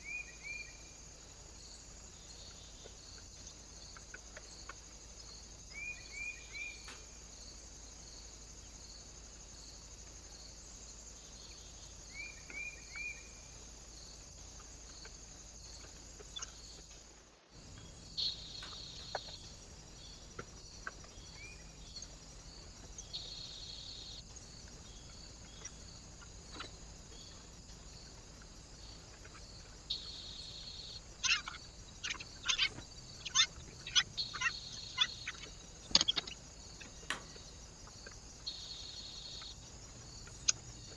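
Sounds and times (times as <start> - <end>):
small birds chirping: 0.0 - 40.9
steady high-pitched hiss: 0.0 - 40.9.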